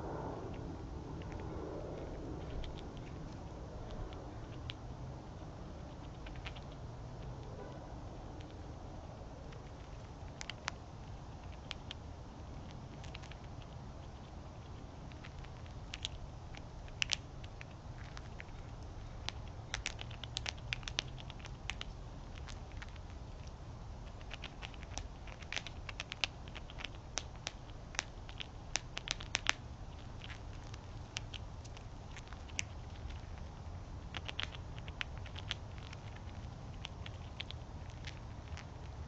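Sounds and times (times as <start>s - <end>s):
low steady rumble: 0.0s - 39.0s
animals feeding clicks and taps: 0.5s - 8.8s, 9.5s - 39.0s.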